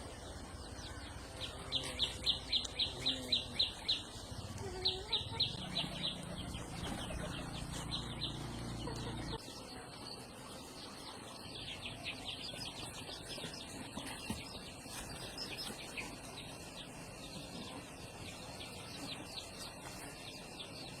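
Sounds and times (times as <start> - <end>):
outdoor hush: 0.0 - 21.0
small birds chirping: 0.0 - 21.0.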